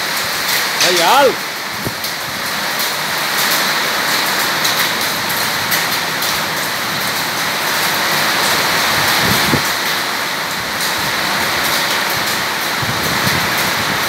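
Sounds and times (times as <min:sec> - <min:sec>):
heavy rain on metal roof: 0:00.0 - 0:14.0.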